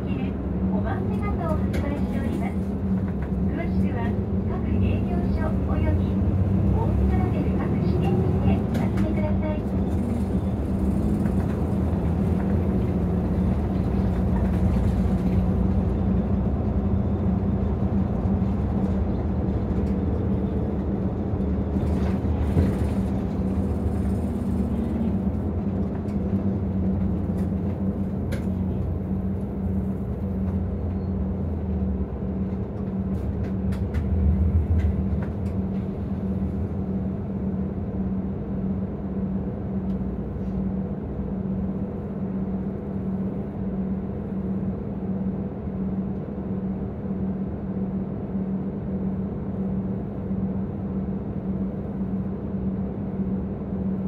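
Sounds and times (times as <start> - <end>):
road noise: 0.0 - 45.9
bus diesel engine droning: 0.0 - 54.0.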